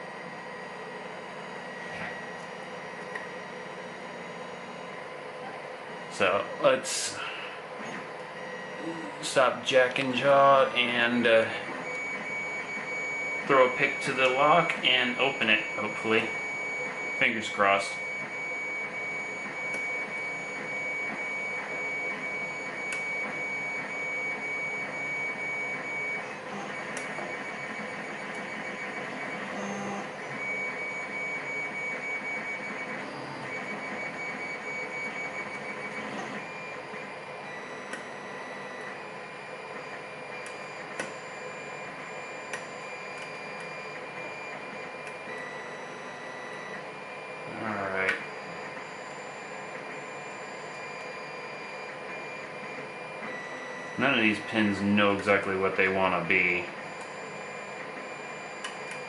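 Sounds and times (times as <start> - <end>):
machine whine: 0.0 - 59.0.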